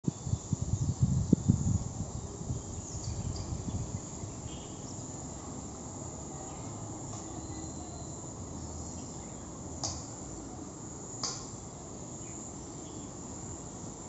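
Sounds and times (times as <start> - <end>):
faint high cricket chirping: 0.0 - 14.0
steady background noise: 0.1 - 14.0.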